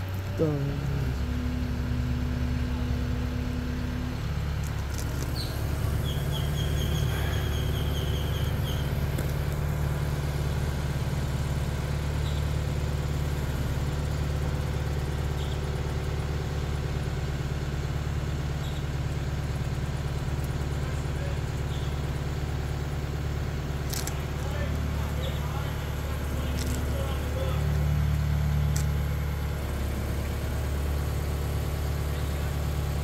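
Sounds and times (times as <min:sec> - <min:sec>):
crane diesel engine droning: 0:00.0 - 0:33.0.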